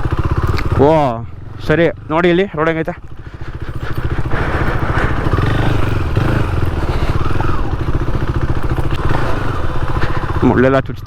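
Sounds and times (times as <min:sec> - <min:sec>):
rushing and rattling: 0:00.0 - 0:10.7
motorcycle engine running: 0:00.0 - 0:11.0.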